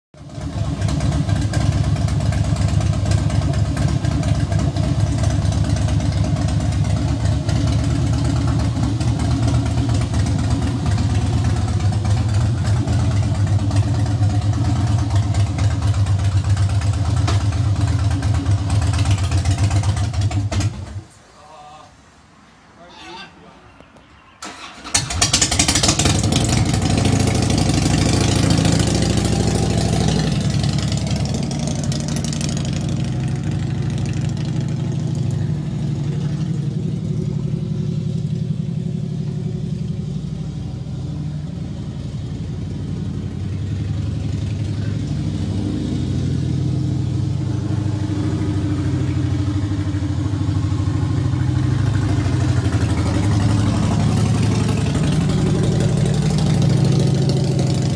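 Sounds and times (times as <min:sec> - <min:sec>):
motorcycle engine revving: 0:00.2 - 0:21.0, 0:24.4 - 0:57.9.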